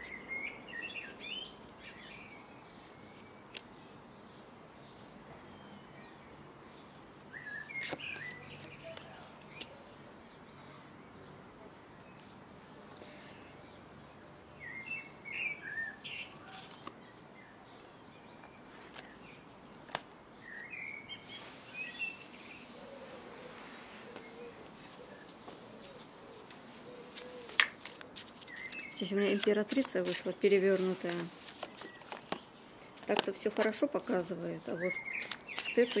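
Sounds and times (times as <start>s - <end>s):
small birds chirping: 0.0s - 36.0s
steady outdoor hiss: 0.0s - 36.0s.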